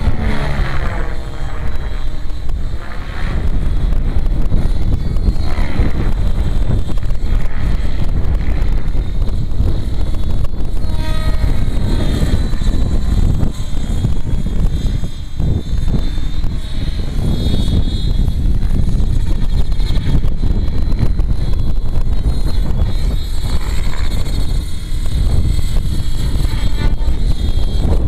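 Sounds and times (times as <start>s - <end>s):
rc helicopter rotor whine: 0.0s - 28.0s
wind rumble on microphone: 0.0s - 28.0s.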